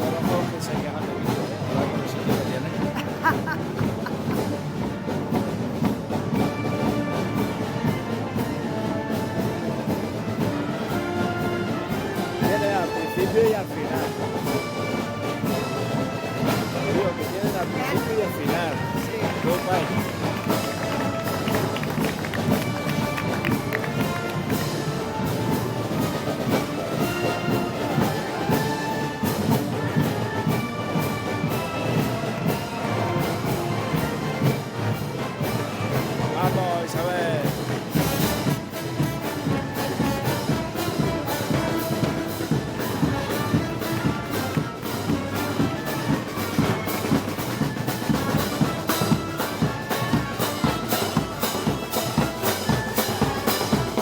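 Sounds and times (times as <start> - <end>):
brass band playing: 0.0 - 54.0
steady drum beat: 0.0 - 54.0.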